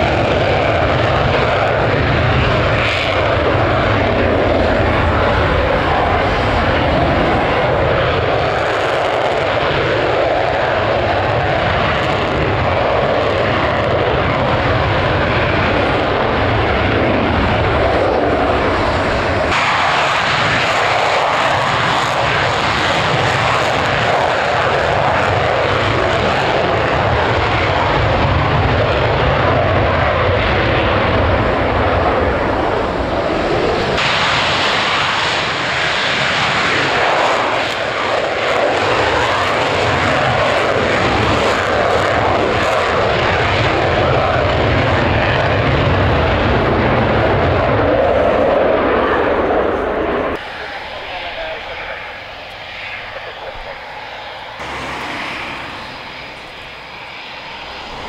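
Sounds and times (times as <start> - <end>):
jet engines at take-off: 0.0 - 58.0.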